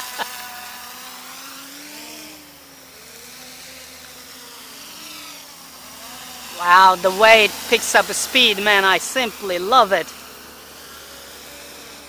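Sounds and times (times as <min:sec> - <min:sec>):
drone propellers buzzing: 0:00.0 - 0:12.0.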